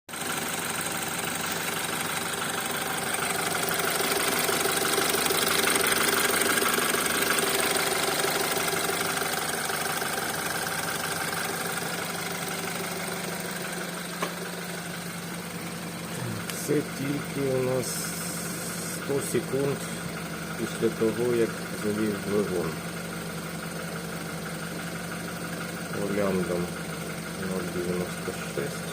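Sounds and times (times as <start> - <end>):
car engine idling with knock: 0.1 - 28.9.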